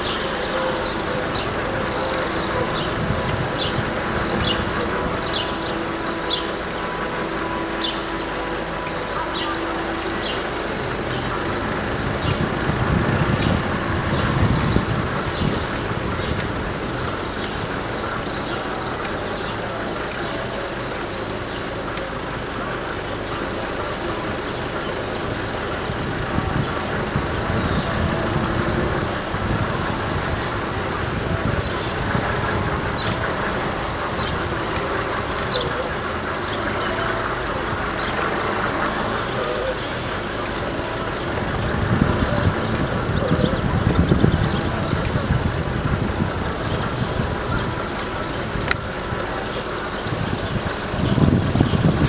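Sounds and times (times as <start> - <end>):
road traffic hum: 0.0 - 52.0
vehicle engine running: 0.0 - 52.0.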